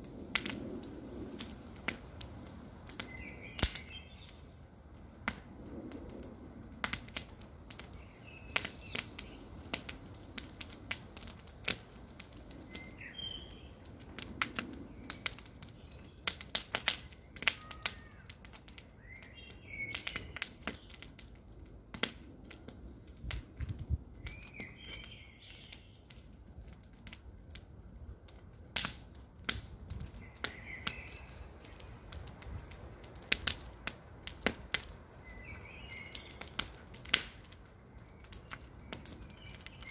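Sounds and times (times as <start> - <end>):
campfire wood crackling and popping: 0.0 - 39.9
low rush of flame: 0.0 - 39.9.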